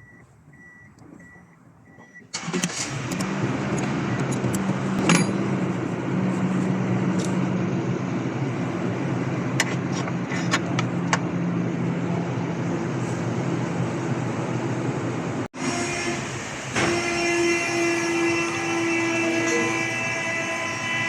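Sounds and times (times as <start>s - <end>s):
van engine idling: 0.0s - 21.0s.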